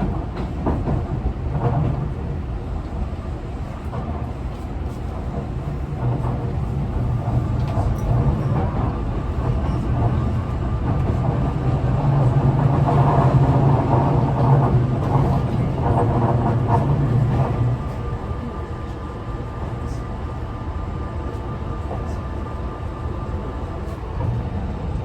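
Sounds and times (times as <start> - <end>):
wheel and rail rumble: 0.0 - 25.0.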